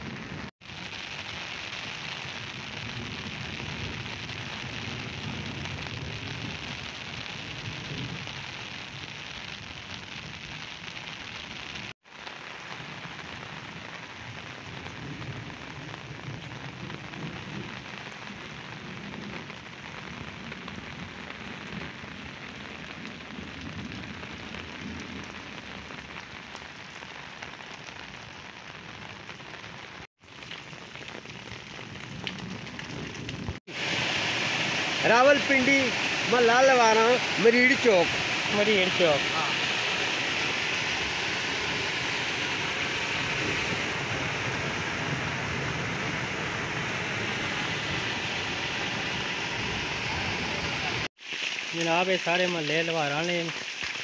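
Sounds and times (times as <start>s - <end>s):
heavy rain falling: 0.0s - 54.0s
rainwater pouring down drain: 0.0s - 54.0s.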